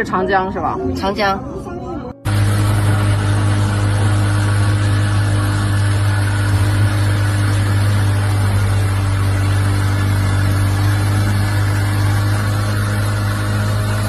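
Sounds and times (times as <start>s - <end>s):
outboard motor running: 2.2s - 14.0s.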